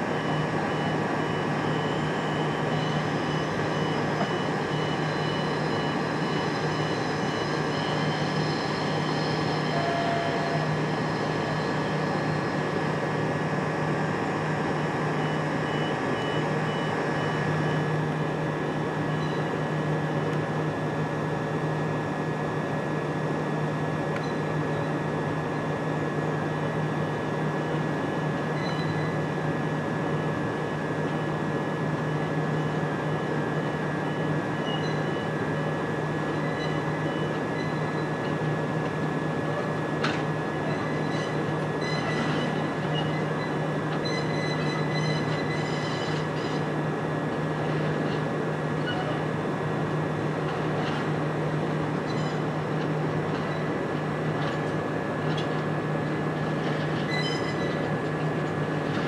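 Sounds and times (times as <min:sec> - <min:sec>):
high whine: 0:00.0 - 0:59.0
train equipment low hum: 0:00.0 - 0:59.0.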